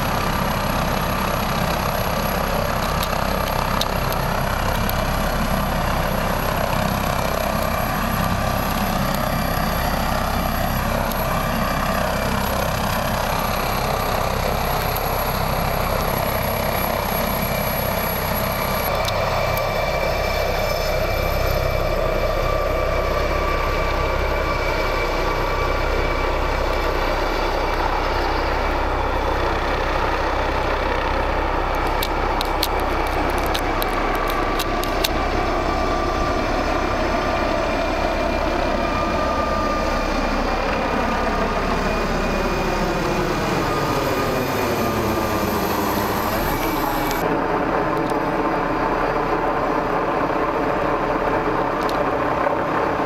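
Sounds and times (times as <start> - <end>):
helicopter turbine and rotor noise: 0.0 - 53.0.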